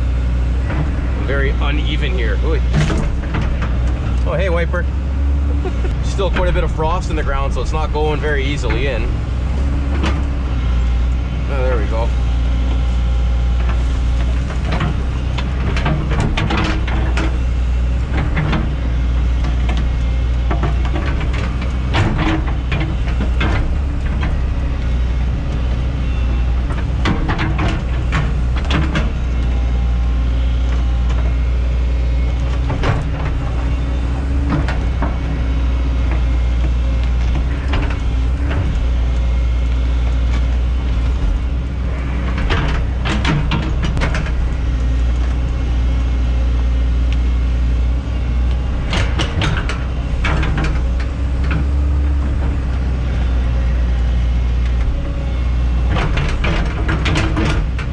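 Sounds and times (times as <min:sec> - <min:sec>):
excavator diesel engine under load: 0:00.0 - 0:57.9.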